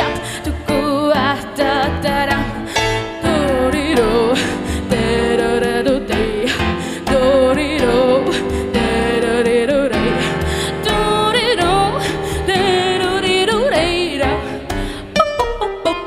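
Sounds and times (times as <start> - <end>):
wavering lead melody with vibrato: 0.0 - 16.0.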